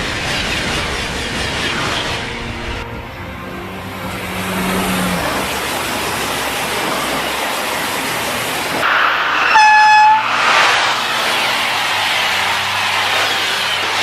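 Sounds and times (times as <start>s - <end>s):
train passing: 0.0s - 14.0s
high-pitched train horn: 1.2s - 14.0s.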